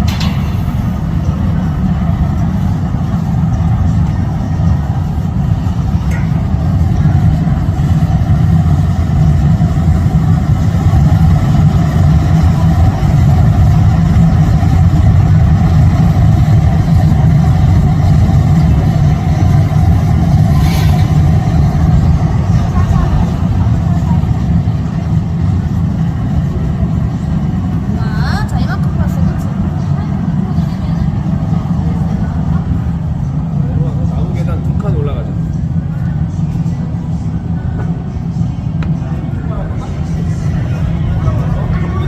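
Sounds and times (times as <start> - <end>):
furnace burners roaring: 0.0 - 42.0.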